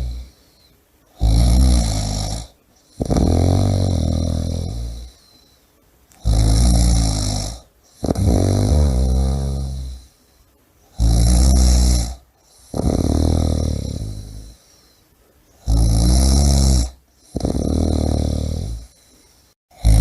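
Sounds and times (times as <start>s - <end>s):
person snoring: 0.0s - 5.5s, 6.1s - 10.2s, 10.9s - 15.0s, 15.6s - 20.0s.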